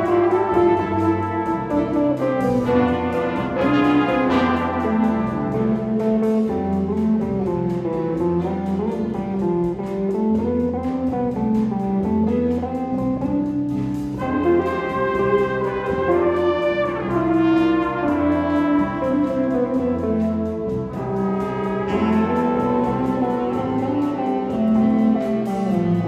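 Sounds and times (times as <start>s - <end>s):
band playing slow piece: 0.0s - 26.0s.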